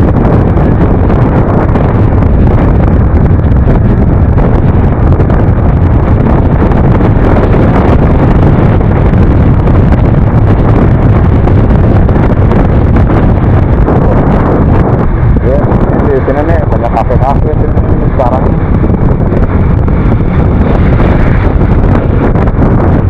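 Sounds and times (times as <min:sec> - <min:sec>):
scooter engine and road noise: 0:00.0 - 0:23.0
wind rushing over microphone: 0:00.0 - 0:23.0.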